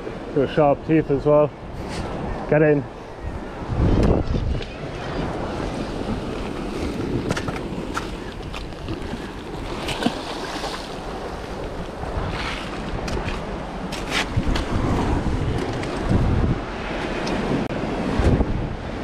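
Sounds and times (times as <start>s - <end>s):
wind buffeting microphone: 0.0s - 19.0s
sea washing against rocks: 3.7s - 19.0s.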